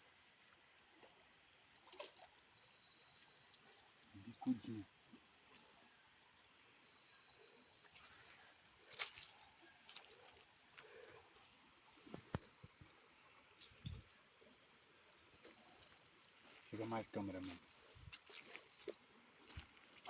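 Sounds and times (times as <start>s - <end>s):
insects chirring: 0.0s - 20.0s
repeating insect chirp: 2.5s - 20.0s.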